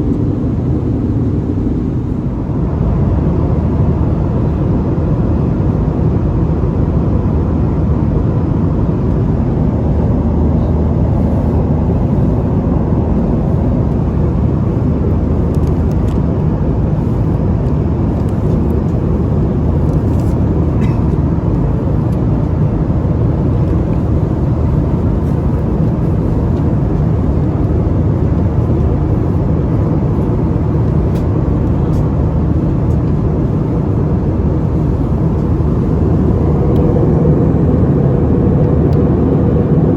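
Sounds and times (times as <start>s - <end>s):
airliner cabin engine roar: 0.0s - 39.9s
faint steady hum: 0.0s - 39.9s.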